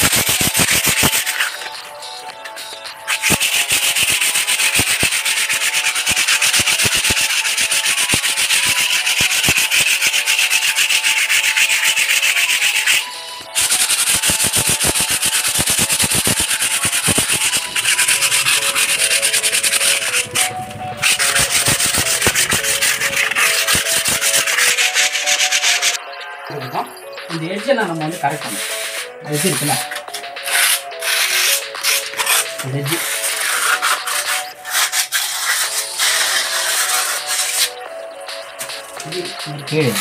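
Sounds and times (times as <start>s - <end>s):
sandpaper rubbing on wall: 0.0s - 1.8s, 3.1s - 26.0s, 28.3s - 37.8s.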